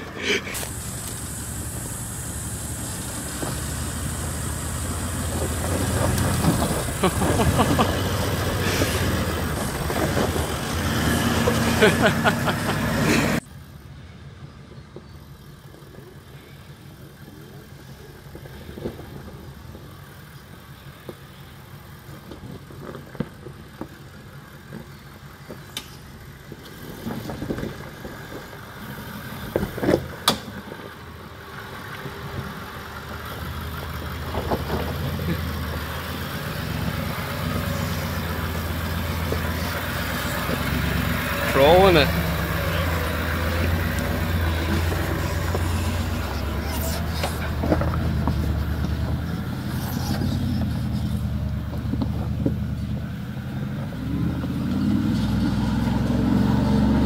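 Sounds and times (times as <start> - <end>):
diesel truck engine working: 0.0 - 57.0.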